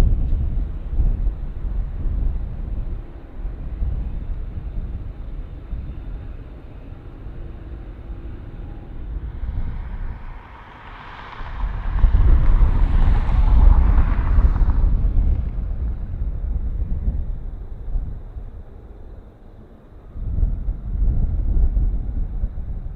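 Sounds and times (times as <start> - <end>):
jet airliner engines: 0.0 - 22.9
wind buffeting microphone: 0.0 - 22.9.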